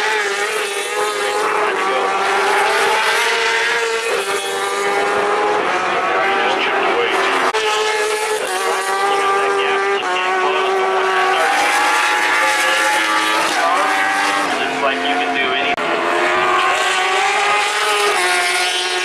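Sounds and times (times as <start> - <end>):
racing motorcycles passing at high revs: 0.0 - 19.0.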